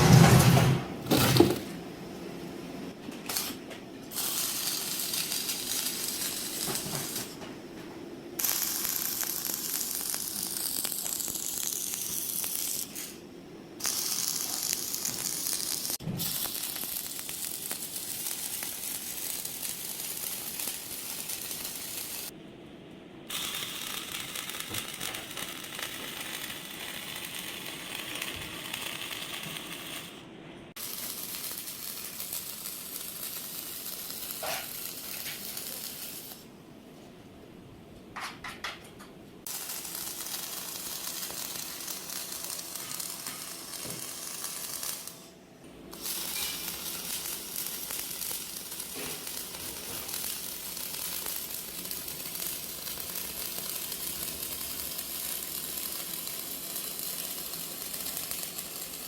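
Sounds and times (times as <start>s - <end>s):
arc welding crackling sizzle: 3.2s - 7.4s, 8.3s - 22.4s, 23.2s - 36.6s, 39.4s - 59.0s.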